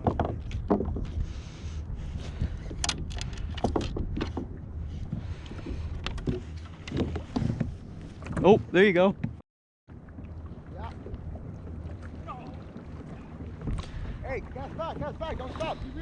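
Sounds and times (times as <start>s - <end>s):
water against kayak hull: 0.0s - 16.0s
wind rumble on microphone: 0.0s - 16.0s.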